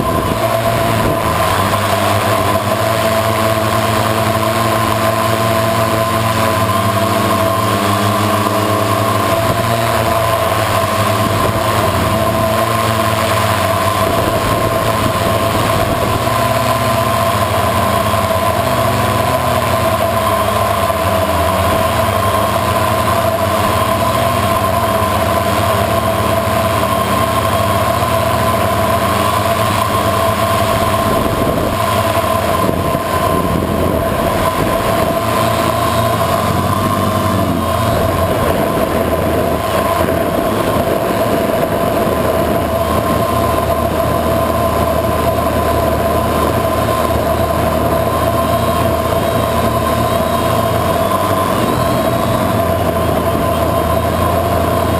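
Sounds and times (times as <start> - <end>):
drone motors whining: 0.0 - 54.9.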